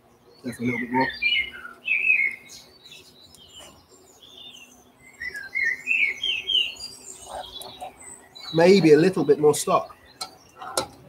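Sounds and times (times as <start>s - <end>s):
songbird warbling chirps: 0.0s - 10.9s.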